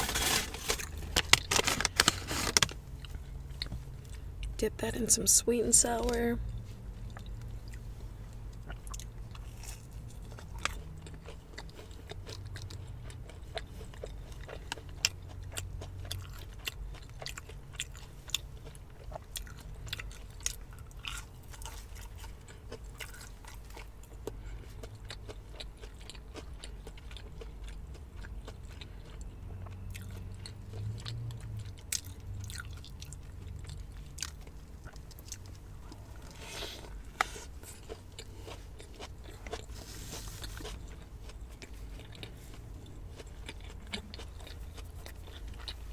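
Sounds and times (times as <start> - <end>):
chewing and crunching food: 0.0 - 4.8, 5.7 - 45.9.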